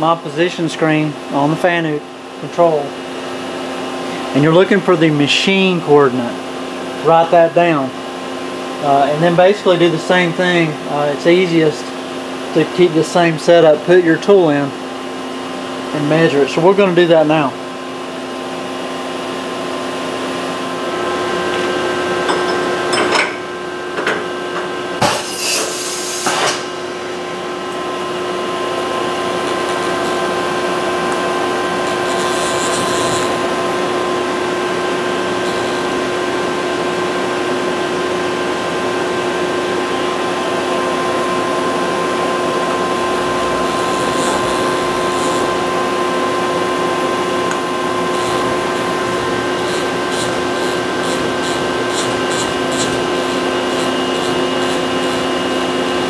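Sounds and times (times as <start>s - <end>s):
machining center hum: 0.0s - 56.0s.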